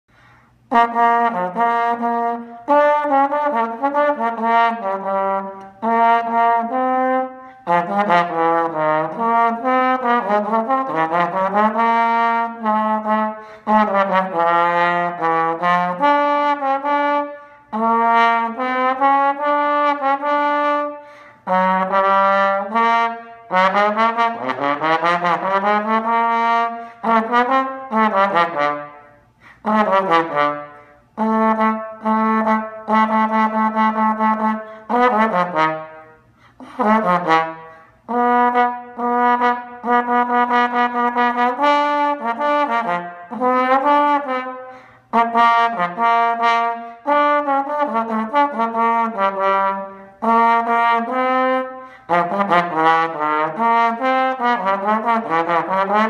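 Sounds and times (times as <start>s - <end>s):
slide trombone playing: 0.5s - 56.0s.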